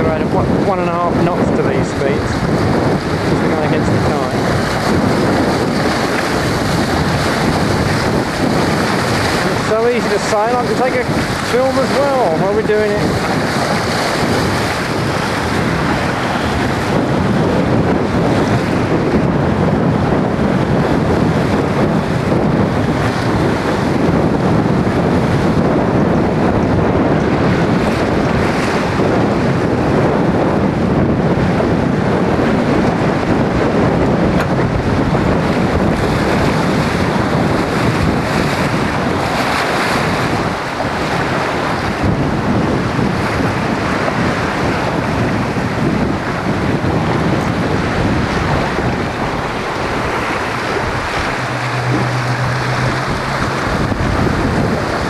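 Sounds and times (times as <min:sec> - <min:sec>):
water rushing past boat hull: 0:00.0 - 0:55.0
wind buffeting microphone: 0:00.0 - 0:55.0.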